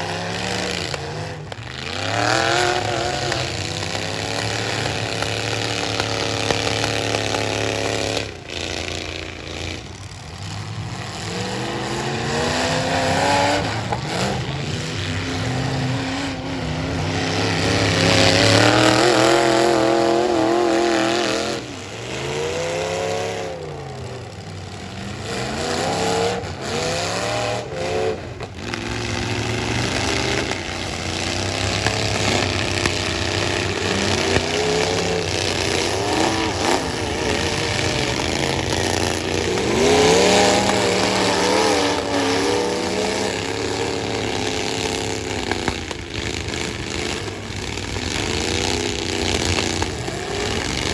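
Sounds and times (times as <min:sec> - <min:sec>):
truck engines revving: 0:00.0 - 0:50.9.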